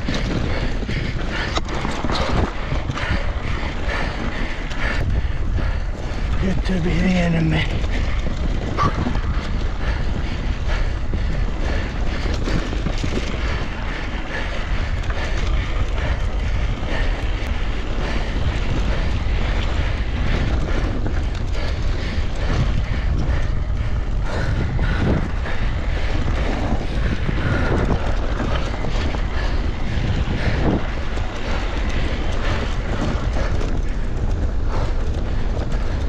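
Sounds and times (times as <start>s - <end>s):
bike rattles and knocks: 0.0s - 36.0s
wind buffeting microphone: 0.0s - 36.0s.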